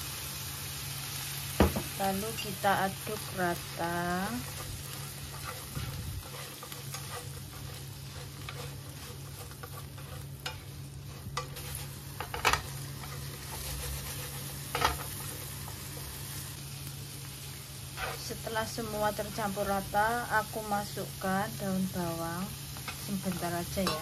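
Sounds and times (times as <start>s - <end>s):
prawns sizzling in frying pan: 0.0s - 24.0s
steady low hum: 1.8s - 24.0s.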